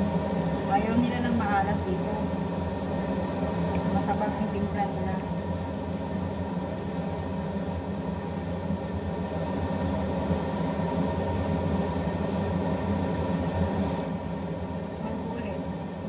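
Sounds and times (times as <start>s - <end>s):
induction cooktop humming: 0.0s - 16.0s.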